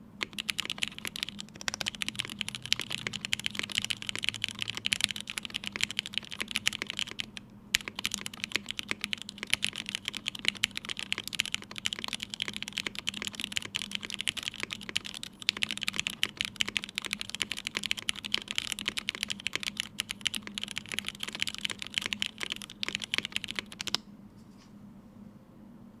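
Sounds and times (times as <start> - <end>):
typing on mechanical keyboard: 0.2 - 24.0.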